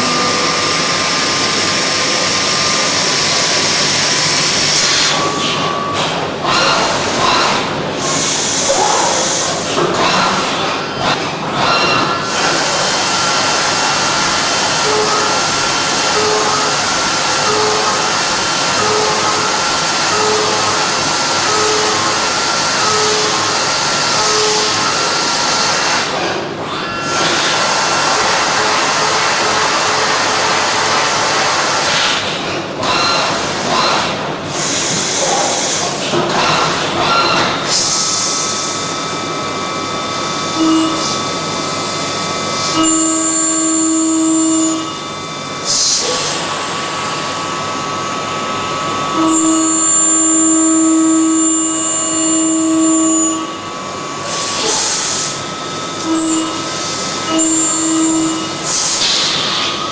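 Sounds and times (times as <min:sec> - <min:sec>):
cutter whine: 0:00.0 - 0:59.9
machine tool cutting metal: 0:00.0 - 0:59.9.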